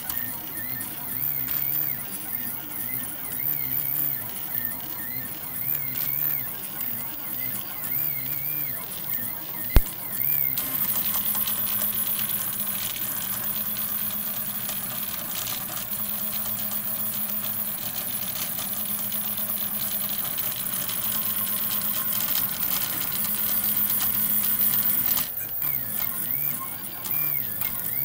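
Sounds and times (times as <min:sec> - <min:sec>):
three d printer whirring: 0:00.0 - 0:28.0.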